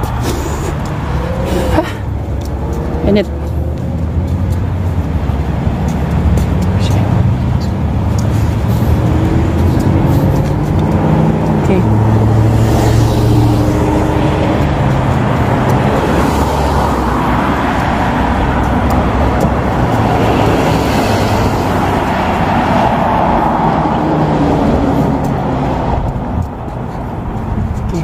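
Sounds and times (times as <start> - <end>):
cars and trucks driving past: 0.0 - 28.0
low engine hum: 0.0 - 28.0.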